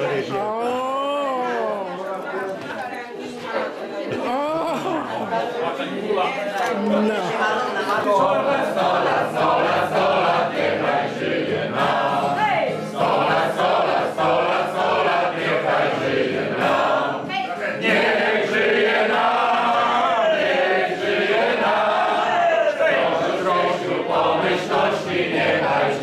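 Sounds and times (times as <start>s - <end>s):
crowd singing together: 2.0s - 26.0s.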